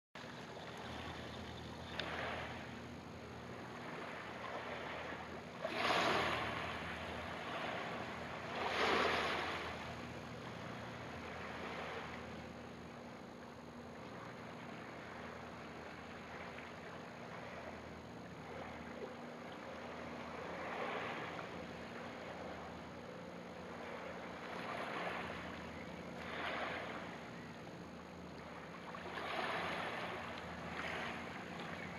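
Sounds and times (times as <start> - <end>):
low hum: 0.2 - 31.9.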